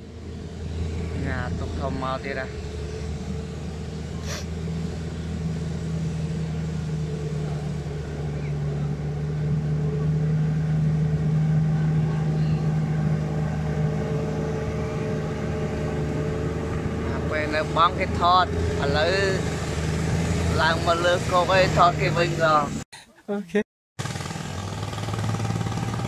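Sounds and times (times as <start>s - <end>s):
motor engine droning: 0.0s - 22.8s, 24.0s - 26.0s.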